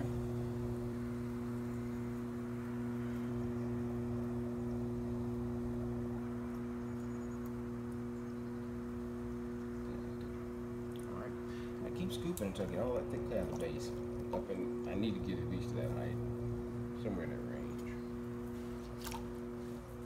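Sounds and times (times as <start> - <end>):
potter's wheel motor humming: 0.0 - 20.0.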